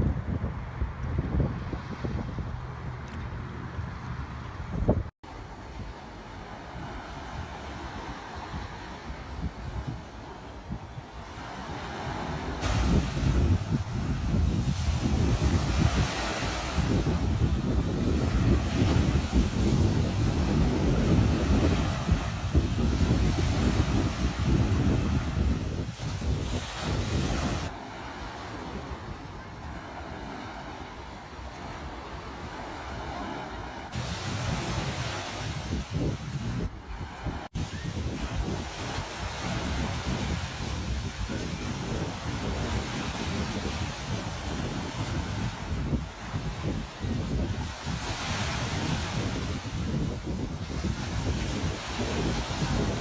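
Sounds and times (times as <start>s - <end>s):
wind buffeting microphone: 0.0s - 53.0s
ocean waves washing onto beach: 5.2s - 53.0s.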